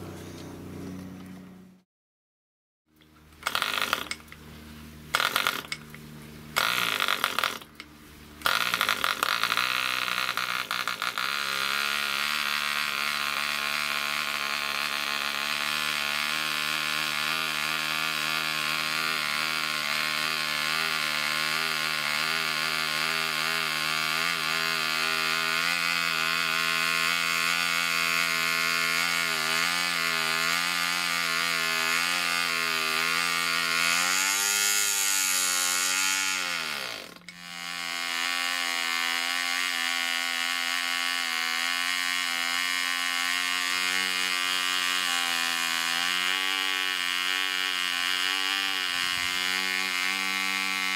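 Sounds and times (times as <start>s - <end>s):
model aircraft engine running: 3.3s - 50.9s.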